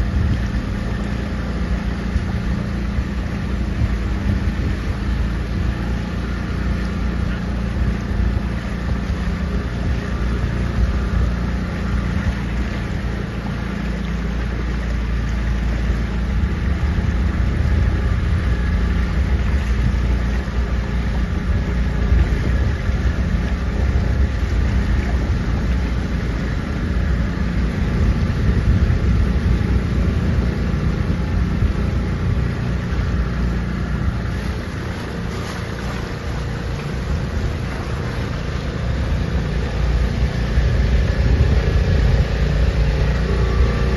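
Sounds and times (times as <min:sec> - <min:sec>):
motorboat engine running: 0:00.0 - 0:43.9
wind rumbling on microphone: 0:00.0 - 0:43.9.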